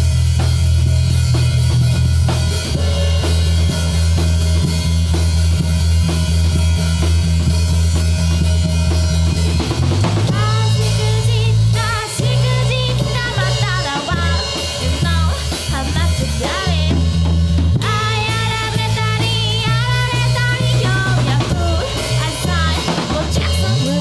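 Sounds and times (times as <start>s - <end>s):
drum kit beat: 0.0s - 24.0s
electric bass notes: 0.0s - 24.0s
electric guitar: 0.0s - 24.0s.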